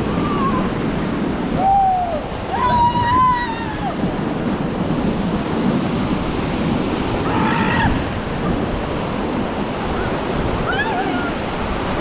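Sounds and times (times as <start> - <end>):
whitewater rushing: 0.0 - 12.0
wind buffeting microphone: 0.0 - 12.0.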